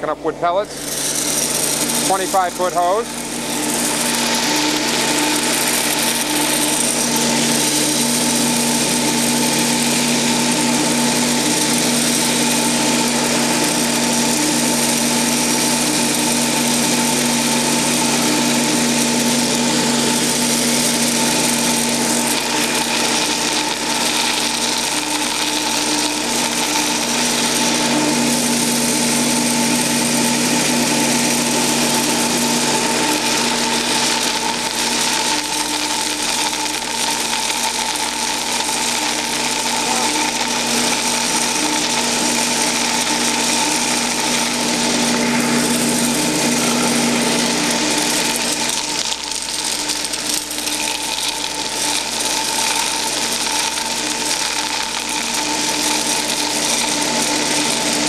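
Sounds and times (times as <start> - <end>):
industrial vacuum whining: 0.0 - 58.0
wood pellets sucked through hose: 0.0 - 58.0.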